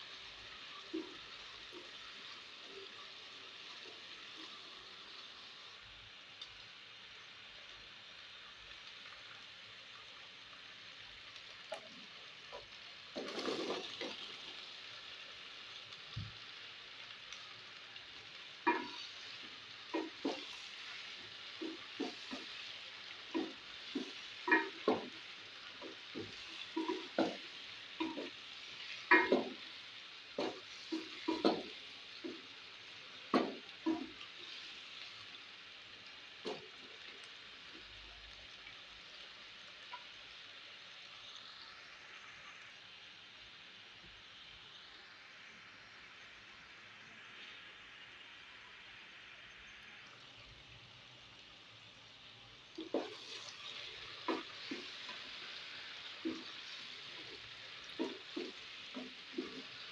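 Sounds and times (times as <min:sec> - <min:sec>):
masala sizzling in oil: 0:00.0 - 0:59.9.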